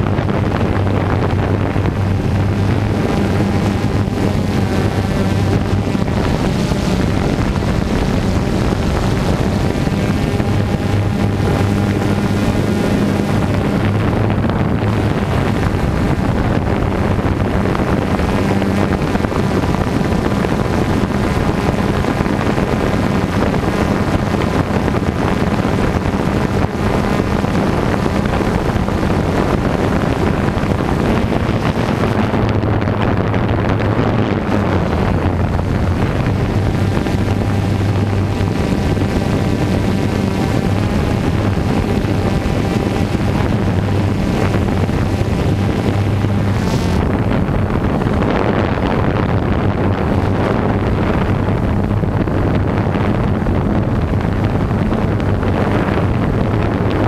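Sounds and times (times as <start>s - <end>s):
drone propellers humming: 0.0s - 57.0s
wind buffeting microphone: 0.0s - 57.0s.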